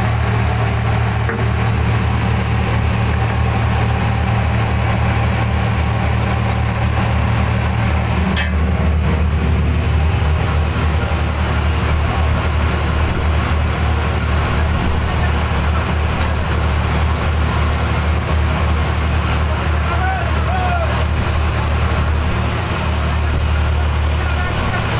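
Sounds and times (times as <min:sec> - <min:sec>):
boat engine droning: 0:00.0 - 0:24.9.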